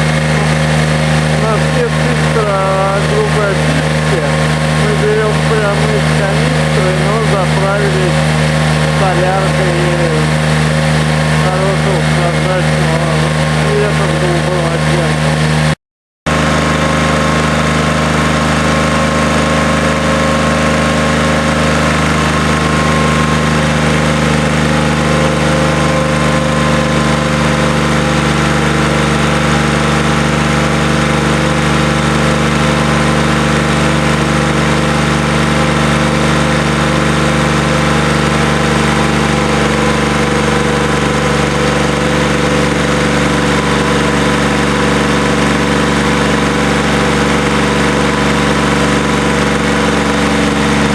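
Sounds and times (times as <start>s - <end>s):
diesel engine running steadily: 0.0s - 50.9s.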